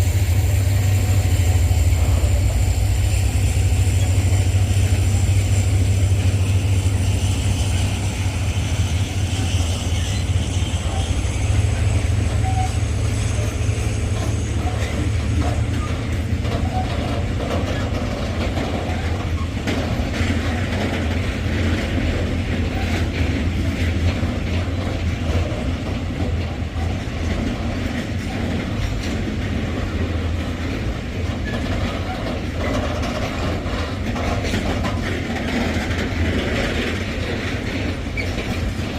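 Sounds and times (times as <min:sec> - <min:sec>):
diesel train engine drone: 0:00.0 - 0:38.9
wheels clattering over rail joints: 0:00.4 - 0:38.9.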